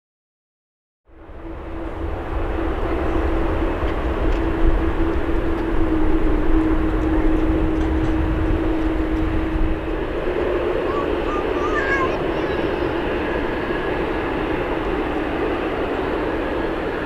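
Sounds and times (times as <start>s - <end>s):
jet engines rumbling: 1.1s - 17.0s
steady humming tone: 1.1s - 17.0s.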